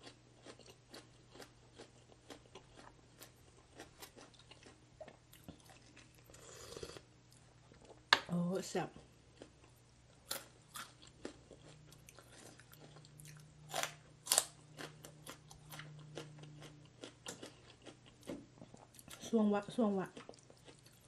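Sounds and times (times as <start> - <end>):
chewing crunchy food: 0.0 - 8.1, 8.9 - 21.0.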